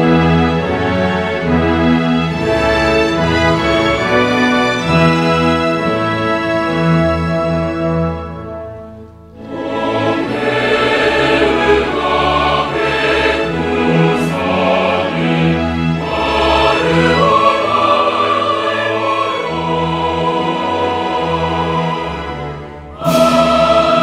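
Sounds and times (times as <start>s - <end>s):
choir with orchestra singing: 0.0s - 8.4s, 9.3s - 24.0s.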